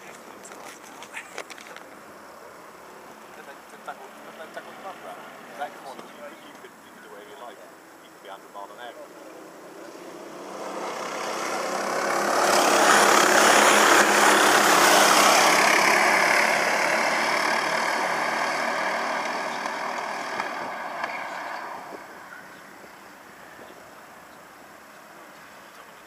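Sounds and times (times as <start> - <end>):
go-kart engines passing: 0.0 - 26.0.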